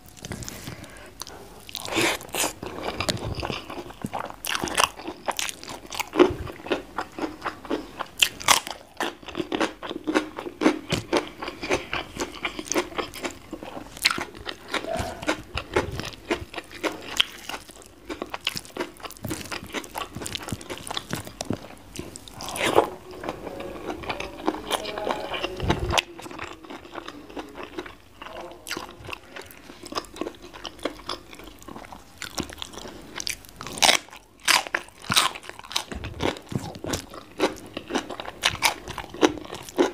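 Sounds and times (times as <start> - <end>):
wet sticky chewing: 0.0 - 39.9
crunchy bites: 0.2 - 22.9, 24.5 - 39.9.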